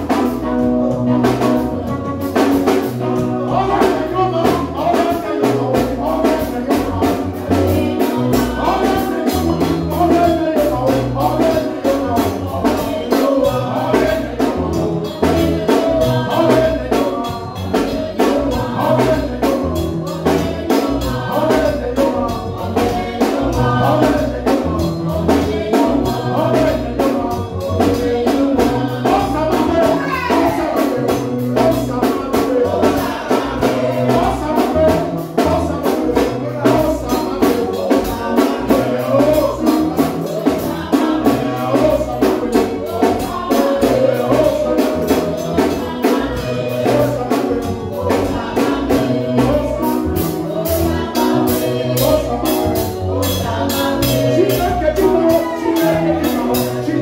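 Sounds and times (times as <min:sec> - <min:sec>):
fast percussion: 0:00.0 - 0:57.0
repeating bass line: 0:00.0 - 0:57.0
singing: 0:00.0 - 0:57.0
upbeat church praise music: 0:00.0 - 0:57.0.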